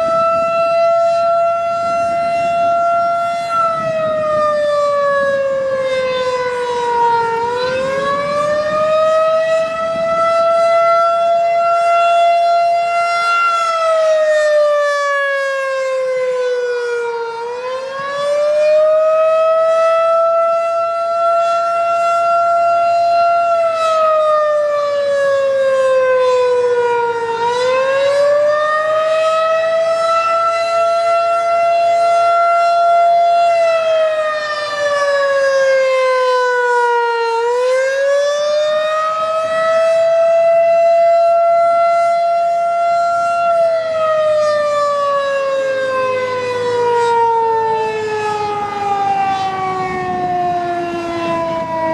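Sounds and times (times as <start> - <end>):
warning siren wailing: 0.0 - 51.9.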